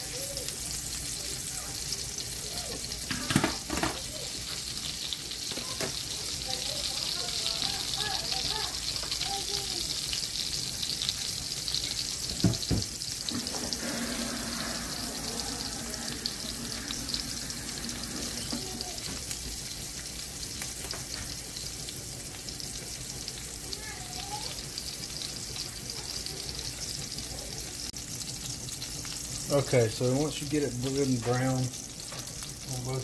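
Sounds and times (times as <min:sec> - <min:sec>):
meat sizzling in hot oil: 0:00.0 - 0:33.0.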